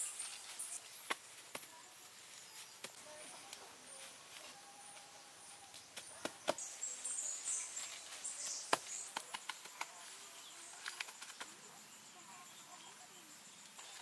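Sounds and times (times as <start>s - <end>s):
leaves and grass rustling: 0.0s - 11.6s.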